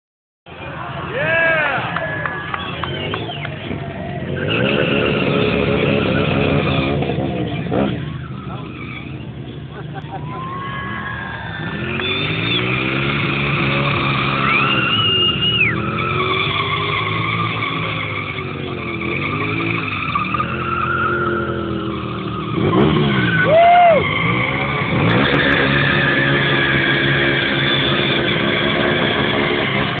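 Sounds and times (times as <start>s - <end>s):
motorcycle engines revving: 0.6s - 30.0s
tyres squealing on asphalt: 0.6s - 30.0s.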